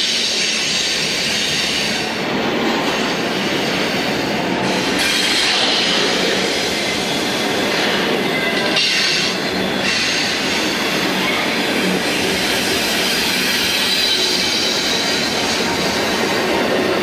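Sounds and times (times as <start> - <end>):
steel train wheels on rail: 0.0 - 17.0.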